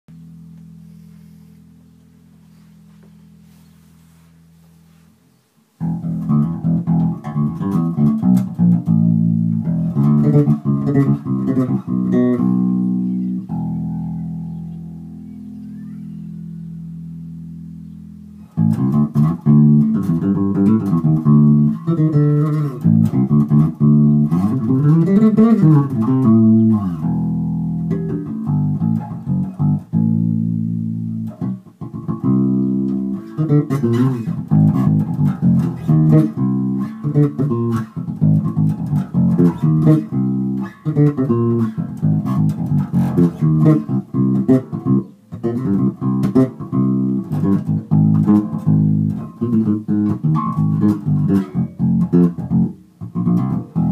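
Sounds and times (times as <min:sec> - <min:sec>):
electric bass notes: 0:00.0 - 0:53.9.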